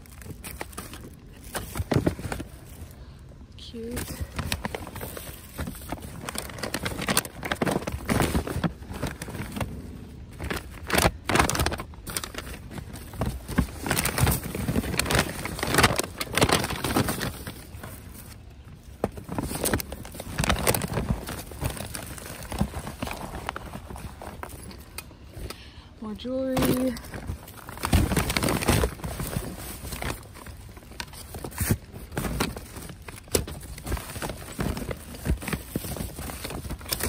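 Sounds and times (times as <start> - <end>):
plastic bags rustling and crinkling: 0.0 - 37.0.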